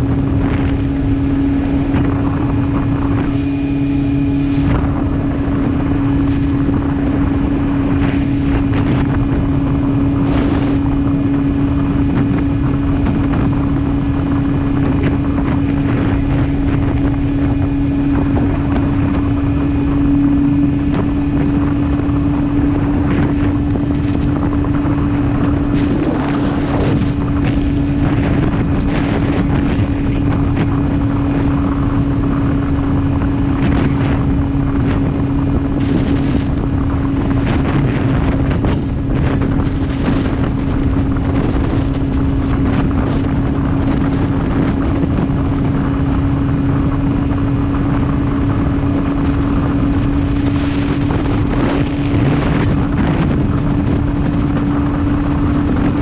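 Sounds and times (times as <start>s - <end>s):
motorcycle engine droning: 0.0s - 56.0s
road rumble: 0.0s - 56.0s
wind buffeting microphone: 0.0s - 56.0s.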